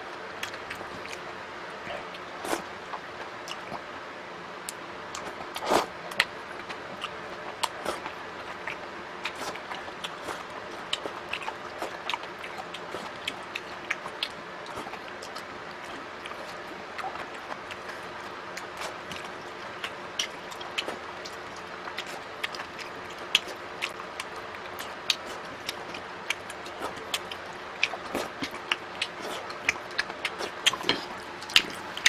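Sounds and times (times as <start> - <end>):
faint steady hum: 0.0 - 32.0
wet chewing and crunching: 0.1 - 3.9, 4.6 - 32.0.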